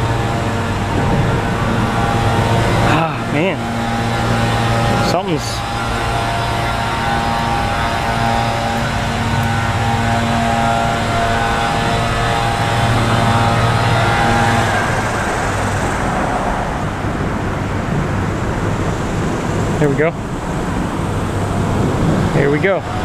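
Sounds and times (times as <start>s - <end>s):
passing traffic noise: 0.0s - 23.0s
traffic engine hum: 0.0s - 23.0s.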